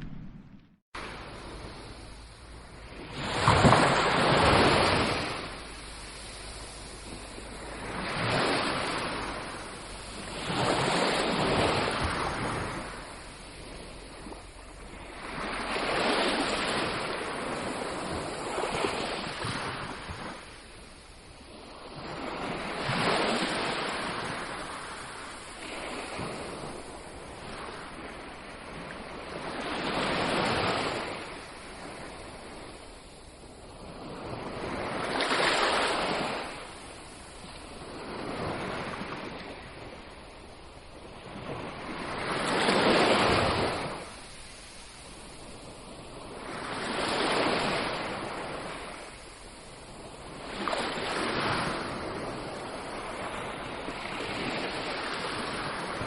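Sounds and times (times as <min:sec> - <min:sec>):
sea waves breaking on beach: 0:01.0 - 0:56.0.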